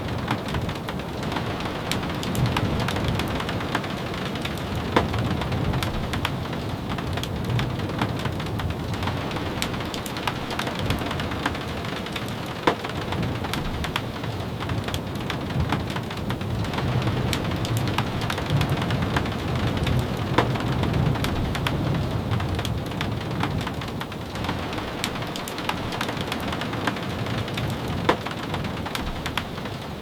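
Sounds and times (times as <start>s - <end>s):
steady rain: 0.0s - 30.0s
thunder rumble: 0.0s - 30.0s.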